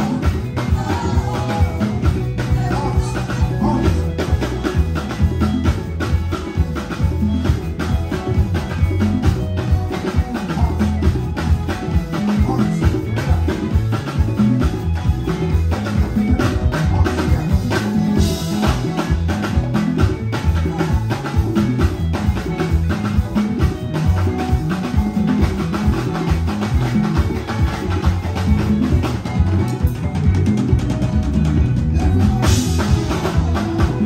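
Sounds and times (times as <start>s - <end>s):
busy bass guitar line: 0.0s - 34.0s
live band music: 0.0s - 34.0s.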